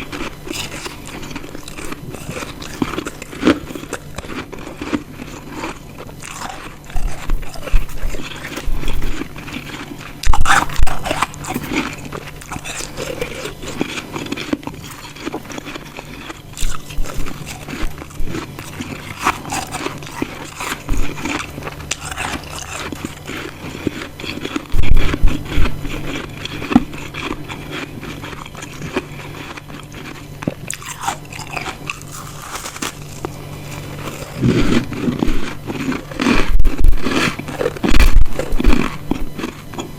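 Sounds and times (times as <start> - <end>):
crunching ice chewing: 0.0 - 39.9.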